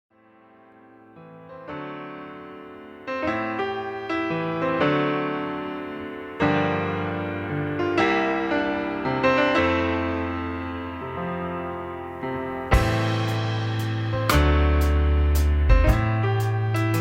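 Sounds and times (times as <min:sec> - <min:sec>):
gentle piano chords: 0:00.2 - 0:17.0.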